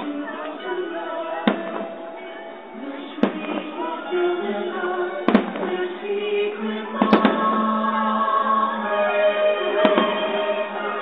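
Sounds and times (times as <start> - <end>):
firework bursts cracking: 0.0 - 8.1, 9.7 - 11.0
orchestral music: 0.0 - 11.0.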